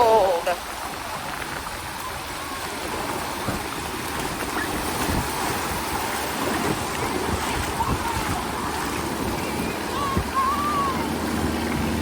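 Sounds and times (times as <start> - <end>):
shallow sea water rushing: 0.0 - 12.0.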